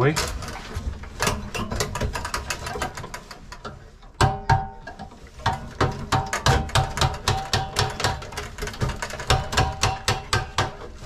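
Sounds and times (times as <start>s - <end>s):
sheet metal and wires rattling: 0.0s - 11.0s.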